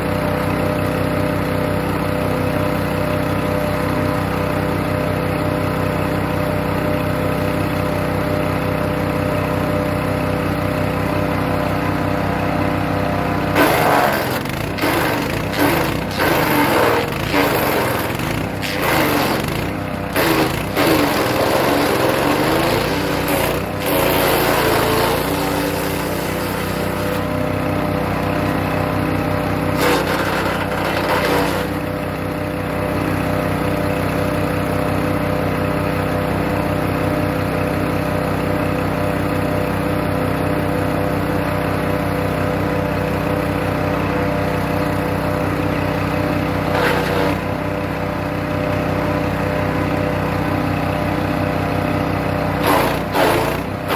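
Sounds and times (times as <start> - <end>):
wood chipper shredding branches: 0.0 - 53.9
petrol engine running: 0.1 - 53.9.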